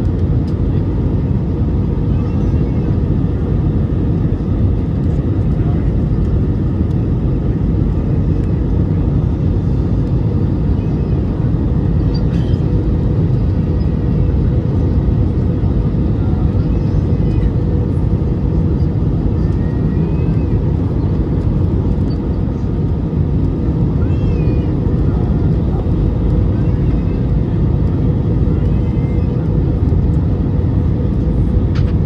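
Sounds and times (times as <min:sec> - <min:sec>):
jet engines rumbling in cabin: 0:00.0 - 0:32.0.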